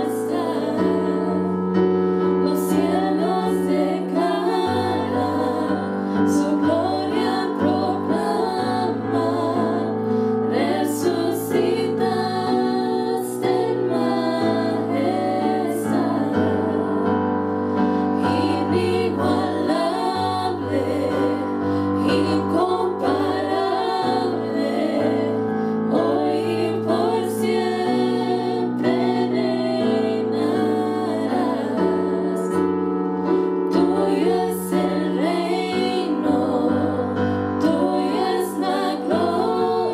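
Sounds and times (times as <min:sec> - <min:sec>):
keyboard accompaniment: 0:00.0 - 0:39.9
women singing: 0:00.0 - 0:39.9.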